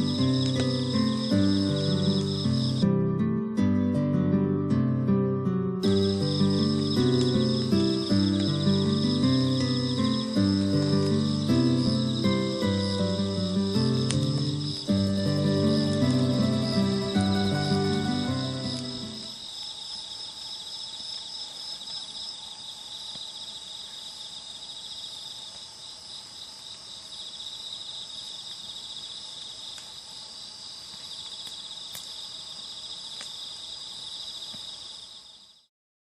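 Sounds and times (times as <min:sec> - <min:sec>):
crickets chirping: 0:00.0 - 0:03.4, 0:05.8 - 0:35.7.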